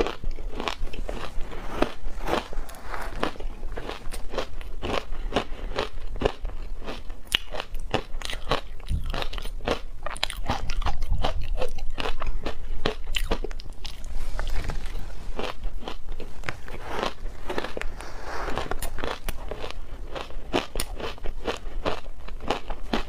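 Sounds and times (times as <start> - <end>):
crunching and chewing ice: 0.0 - 23.0.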